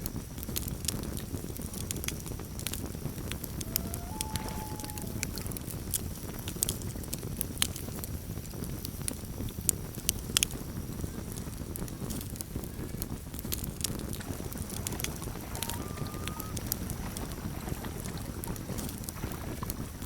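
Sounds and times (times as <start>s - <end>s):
campfire burning: 0.0s - 20.0s.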